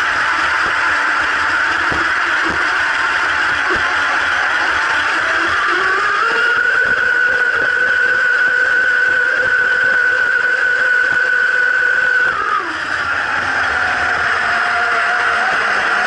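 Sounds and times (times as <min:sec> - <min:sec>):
model boat motor whining: 0:00.0 - 0:16.0.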